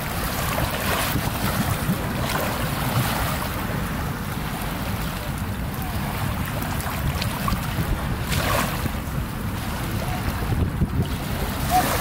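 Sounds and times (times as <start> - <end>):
small waves lapping on rocks: 0.0 - 12.0
wind buffeting microphone: 0.0 - 12.0.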